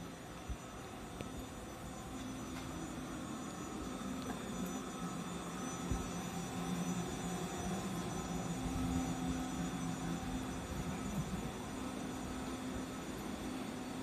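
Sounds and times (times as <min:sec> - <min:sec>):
electric tram humming: 0:00.0 - 0:14.0.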